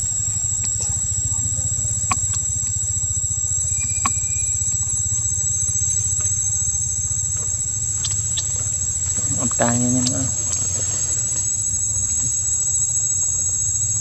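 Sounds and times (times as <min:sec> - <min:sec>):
high-pitched whine: 0:00.0 - 0:14.0
low engine hum: 0:00.0 - 0:14.0
faint clicks: 0:00.2 - 0:12.6.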